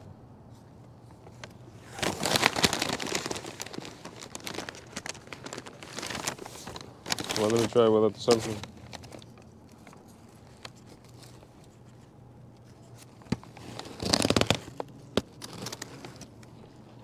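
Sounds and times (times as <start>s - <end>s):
foil and paper bag crinkling: 1.1s - 17.0s.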